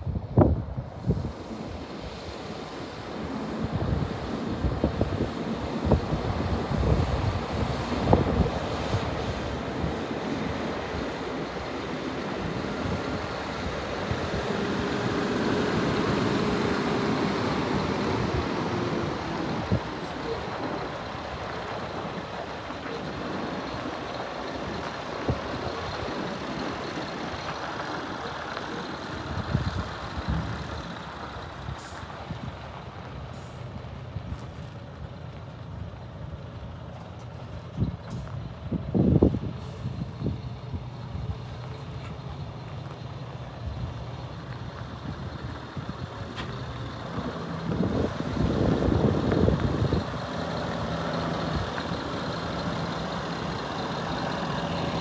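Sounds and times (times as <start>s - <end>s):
diesel truck engine running: 0.1s - 55.0s.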